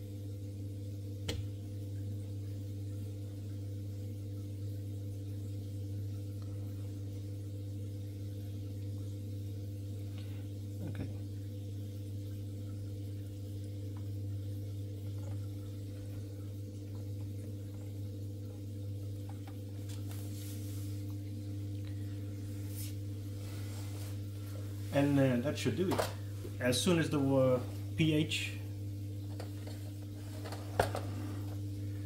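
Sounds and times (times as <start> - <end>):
aquarium equipment humming: 0.0 - 32.0.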